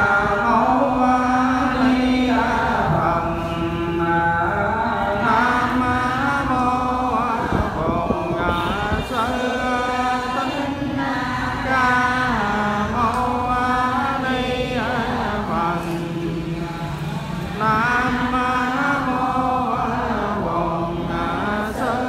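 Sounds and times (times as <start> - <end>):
chanting: 0.0 - 22.0.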